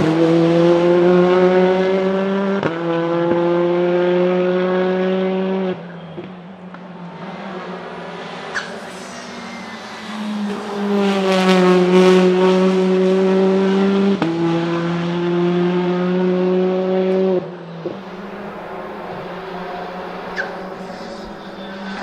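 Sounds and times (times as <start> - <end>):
car engine and exhaust under load: 0.0 - 22.0.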